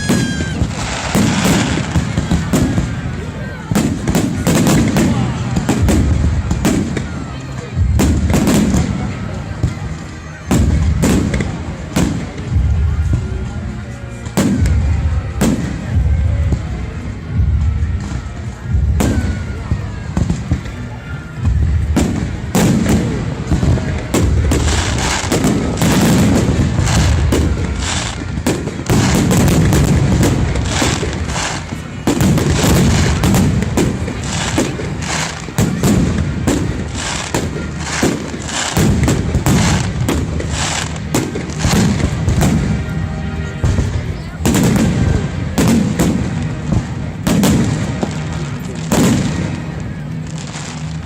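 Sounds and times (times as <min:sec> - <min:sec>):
deep fireworks booms: 0:00.0 - 0:51.0
fireworks bangs and crackles: 0:00.0 - 0:51.0.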